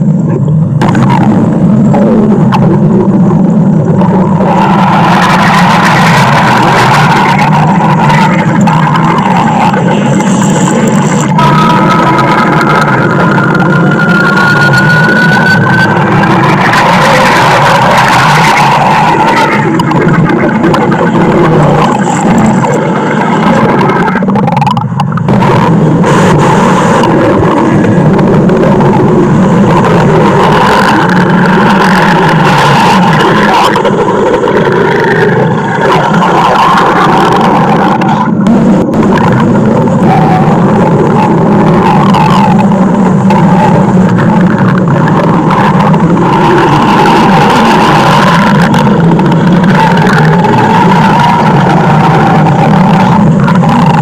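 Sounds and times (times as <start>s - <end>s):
stomach growling: 0.0s - 54.0s.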